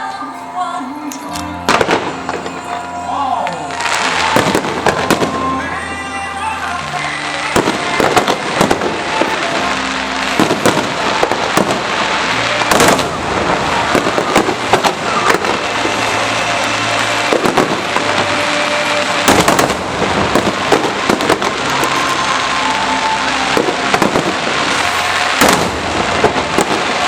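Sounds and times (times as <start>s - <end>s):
fireworks popping and banging: 1.1s - 3.0s, 3.6s - 27.0s.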